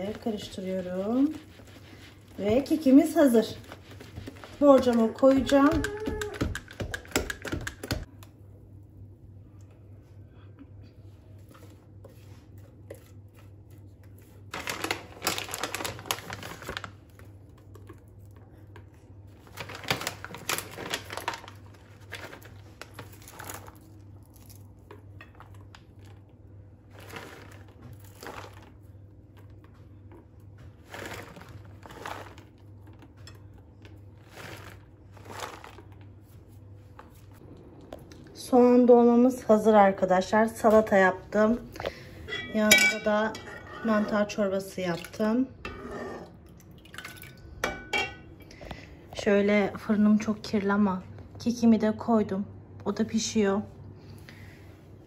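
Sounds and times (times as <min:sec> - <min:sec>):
rustling and scraping in kitchen: 0:00.0 - 0:37.7, 0:38.4 - 0:52.1.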